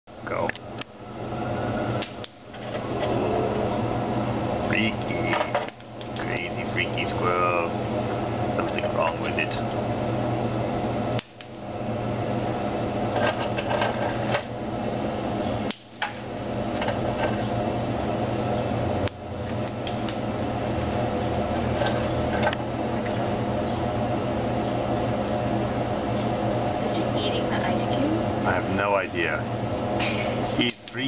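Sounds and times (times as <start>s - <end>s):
steady mechanical hum: 0.1s - 31.0s.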